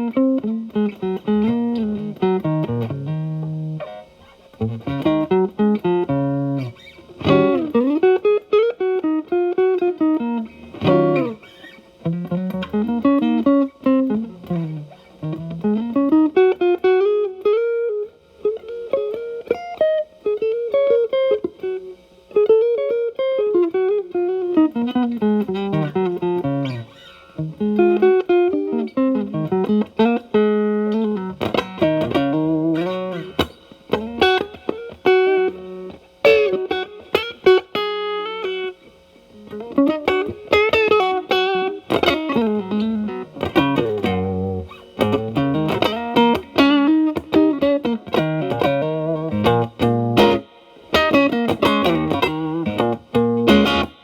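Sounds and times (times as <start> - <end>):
distorted electric guitar lead: 0.0 - 54.0.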